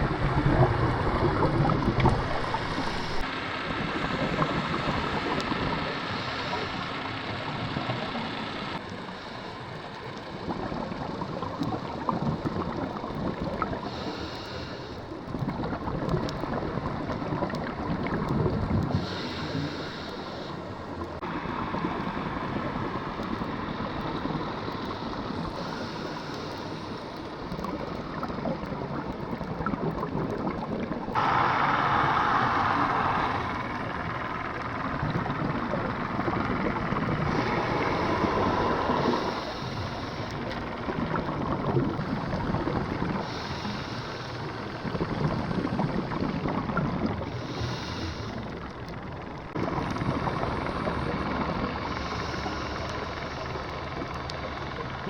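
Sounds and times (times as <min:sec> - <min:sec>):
sea water washing: 0:00.0 - 0:55.0.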